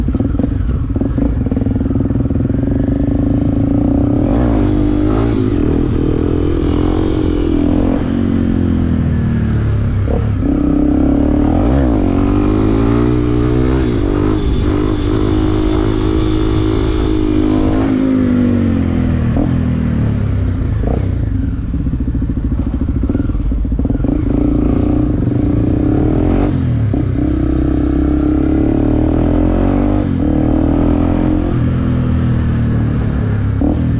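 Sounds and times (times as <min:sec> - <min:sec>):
motorcycle engine revving: 0:00.0 - 0:33.9
wind noise: 0:00.0 - 0:33.9.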